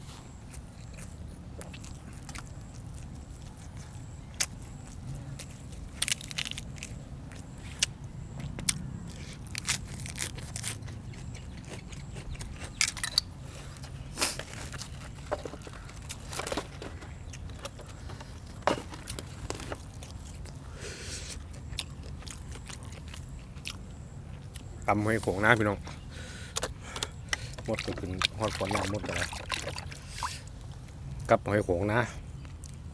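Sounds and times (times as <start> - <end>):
chewing and crunching: 0.0 - 31.4, 32.0 - 32.9
steady low hum: 0.0 - 32.9.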